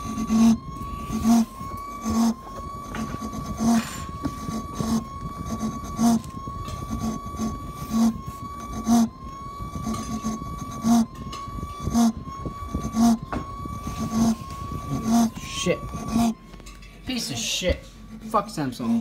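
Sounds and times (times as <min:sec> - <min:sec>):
dishwasher high whine: 0:00.0 - 0:19.0.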